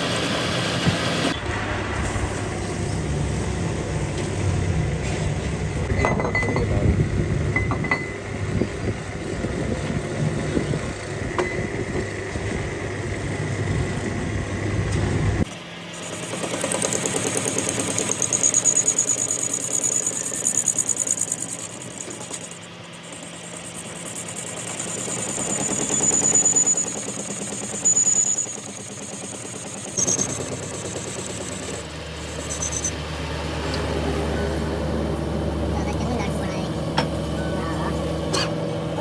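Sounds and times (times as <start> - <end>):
engine running with fast pulse: 0.0 - 39.0.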